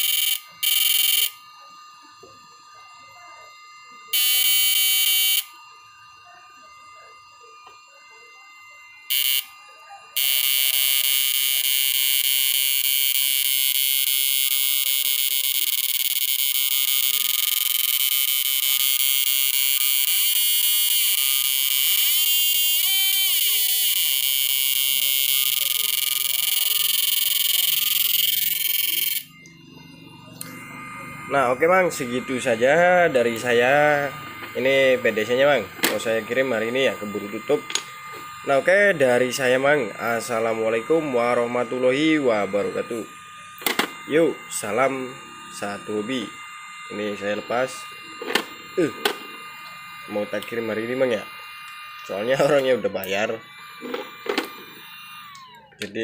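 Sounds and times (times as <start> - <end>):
high-pitched inverter whine: 0.0 - 56.0.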